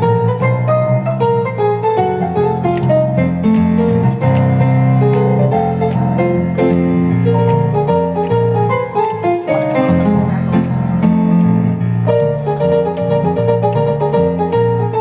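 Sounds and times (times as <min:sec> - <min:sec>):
jazz keyboard line: 0:00.0 - 0:15.0.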